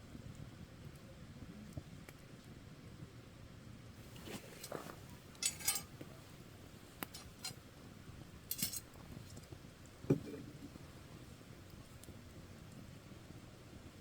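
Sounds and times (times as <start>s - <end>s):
campfire crackling: 0.0s - 14.0s
faint steady hiss: 0.0s - 14.0s.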